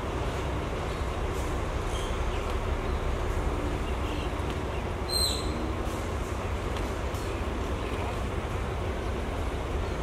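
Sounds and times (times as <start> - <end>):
train running over rails: 0.0 - 10.0.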